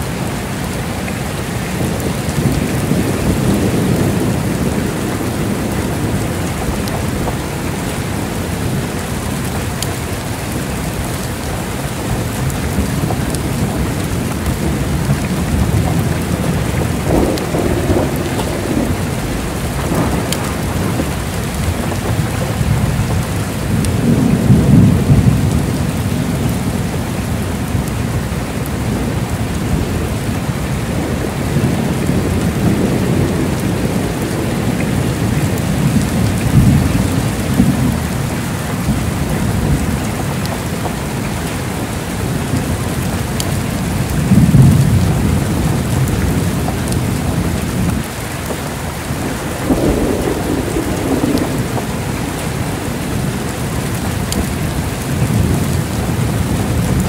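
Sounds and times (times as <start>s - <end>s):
heavy rain falling: 0.0s - 57.0s
rolling thunder: 1.4s - 11.3s, 11.9s - 40.8s, 42.1s - 57.0s.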